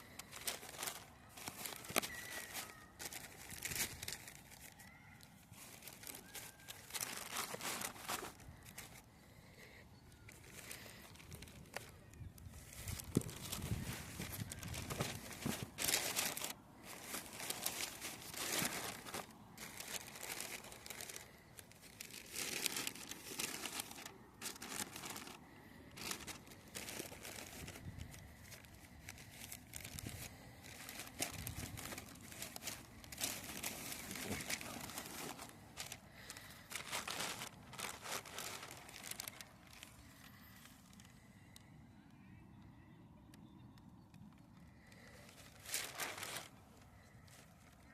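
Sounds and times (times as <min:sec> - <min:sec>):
packaging crinkling and tearing: 0:00.0 - 0:41.6, 0:44.2 - 0:47.9.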